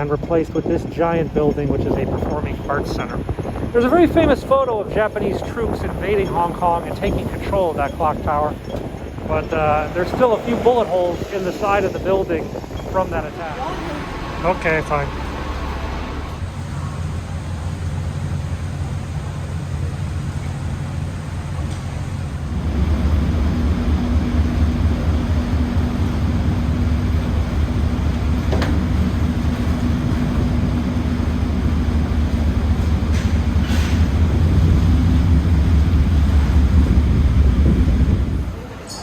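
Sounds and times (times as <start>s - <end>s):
vehicle rumble in motion: 0.0s - 39.0s.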